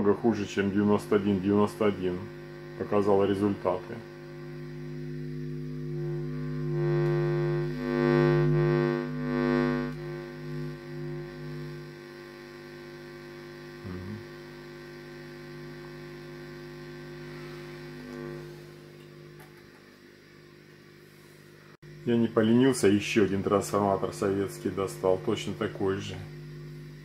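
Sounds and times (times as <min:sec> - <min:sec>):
mains hum through speakers: 0:00.0 - 0:27.0.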